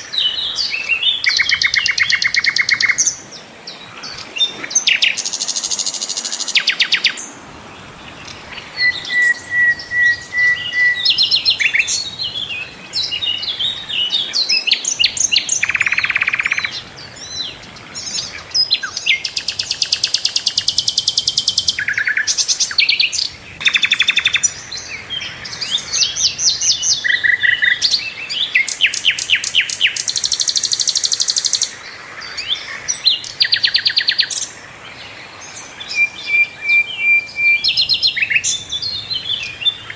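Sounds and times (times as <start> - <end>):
flycatcher singing: 0.0 - 39.9.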